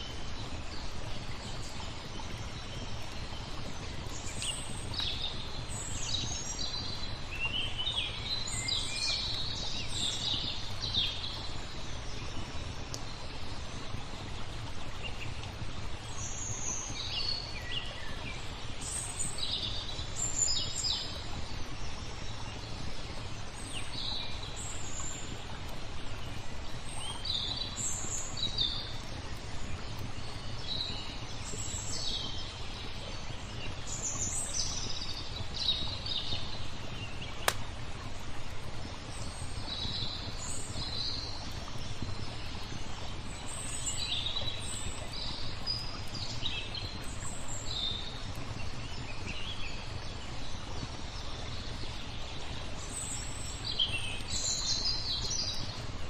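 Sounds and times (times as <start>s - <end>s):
flowing water: 0.0s - 56.0s
small songbirds chirping: 0.0s - 56.0s.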